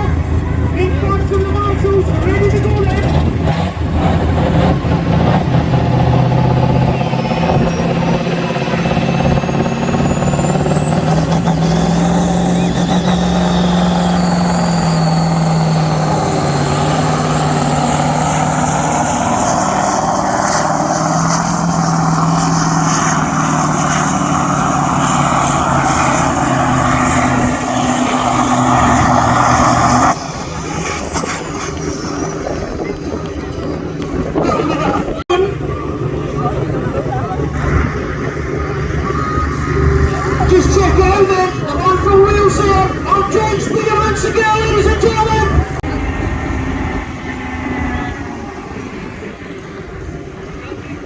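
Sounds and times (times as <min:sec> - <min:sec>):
engine running hard under load: 0:00.0 - 0:51.0
high whine rising in pitch: 0:04.3 - 0:50.9.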